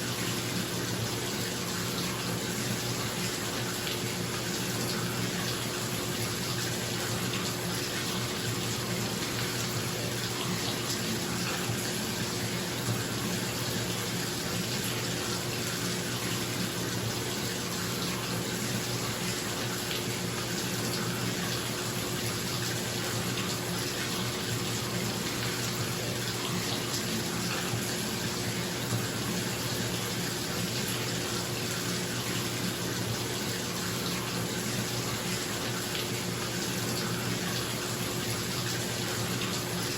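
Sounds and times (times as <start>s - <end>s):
tap water running into tub: 0.0s - 39.9s.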